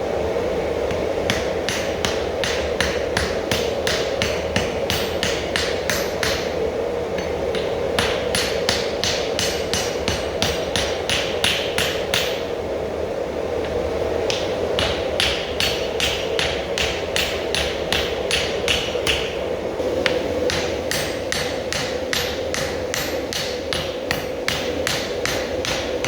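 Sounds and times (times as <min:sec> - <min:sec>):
steady hum: 0:00.0 - 0:26.0
hammer blows on hot steel: 0:00.8 - 0:12.7, 0:13.6 - 0:26.0.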